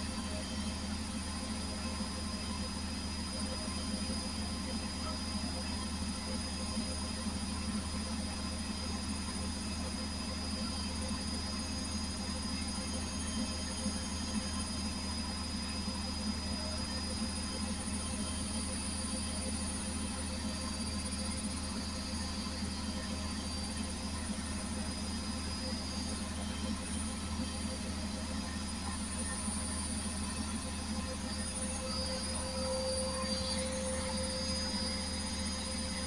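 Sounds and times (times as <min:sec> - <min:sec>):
high-pitched motor whine: 0:00.0 - 0:36.0
washing machine drone: 0:00.0 - 0:36.0.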